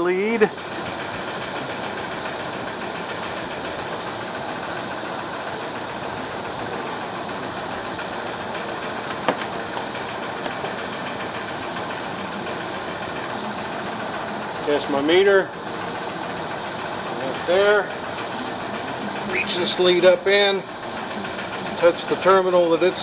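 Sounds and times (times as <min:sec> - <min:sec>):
machine running steadily: 0:00.0 - 0:23.0.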